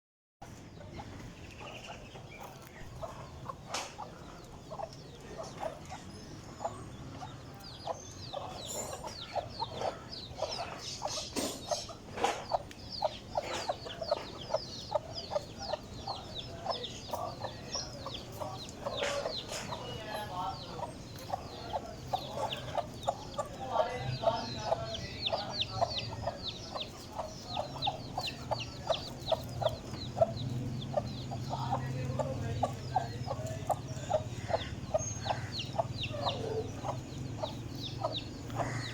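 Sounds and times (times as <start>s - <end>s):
chicks peeping: 0.4s - 38.9s.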